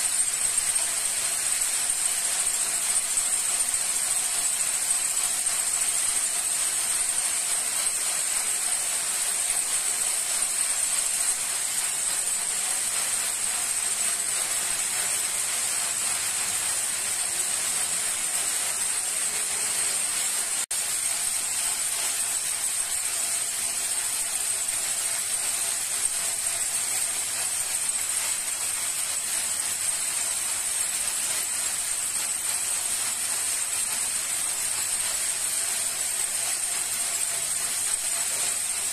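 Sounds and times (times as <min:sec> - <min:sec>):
braiding machines whirring: 0:00.0 - 0:38.9.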